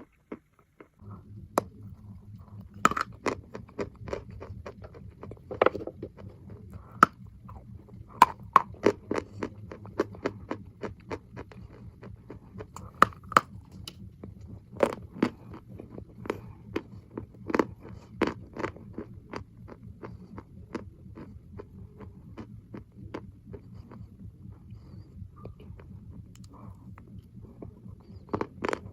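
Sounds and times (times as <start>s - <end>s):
chalk crunching and chewing: 0.0s - 14.0s, 14.7s - 24.1s, 25.5s - 28.9s.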